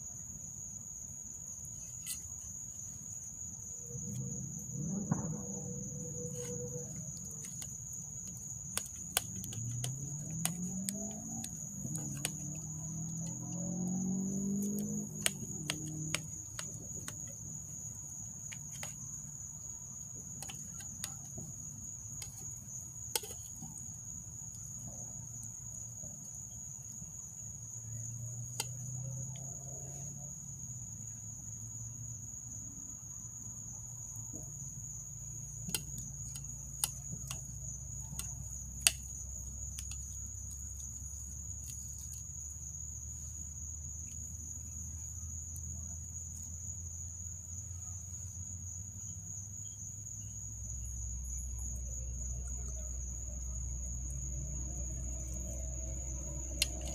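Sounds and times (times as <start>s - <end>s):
crickets chirring: 0.0s - 56.9s.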